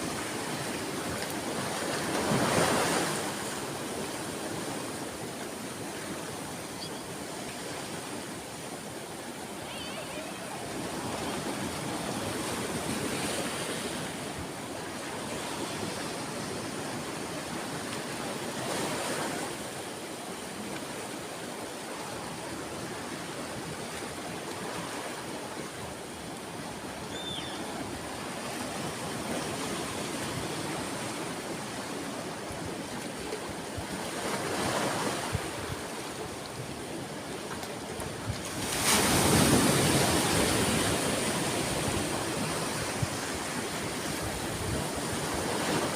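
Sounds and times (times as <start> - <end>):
sea waves washing onto shore: 0.0 - 45.9.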